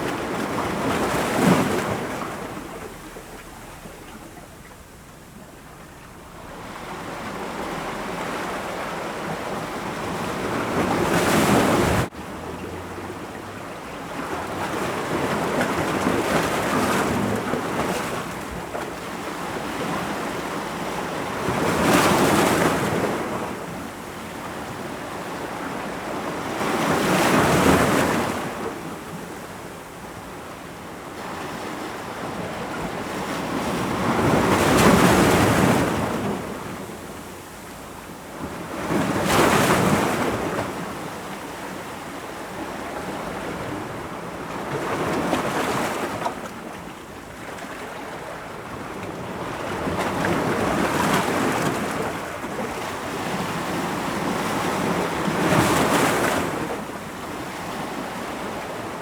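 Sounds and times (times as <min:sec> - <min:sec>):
ocean waves breaking against rocks: 0:00.0 - 0:29.7, 0:31.0 - 0:37.4, 0:38.3 - 0:59.0.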